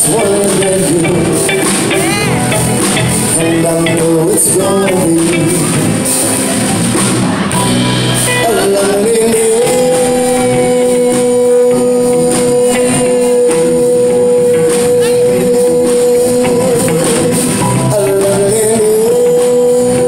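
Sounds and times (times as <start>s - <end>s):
man singing into microphone: 0.0s - 2.6s, 3.2s - 6.6s, 8.2s - 20.0s
live band playing: 0.0s - 20.0s.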